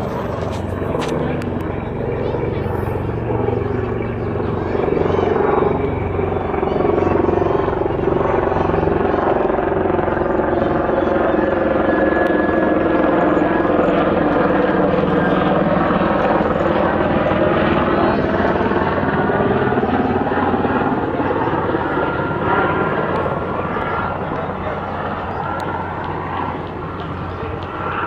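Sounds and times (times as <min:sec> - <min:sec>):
helicopter engine and rotor: 0:00.0 - 0:28.0.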